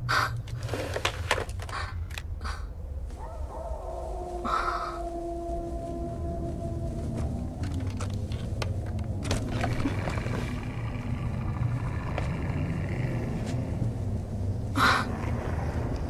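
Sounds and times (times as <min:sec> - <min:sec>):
crackles and clicks: 0:00.0 - 0:16.0
low steady rumble: 0:00.0 - 0:16.0.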